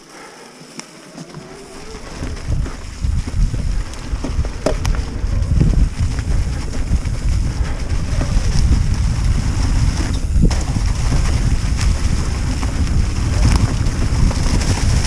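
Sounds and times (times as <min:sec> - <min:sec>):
mountain bike rolling on trail: 0:00.0 - 0:15.0
wind buffeting microphone: 0:01.7 - 0:15.0.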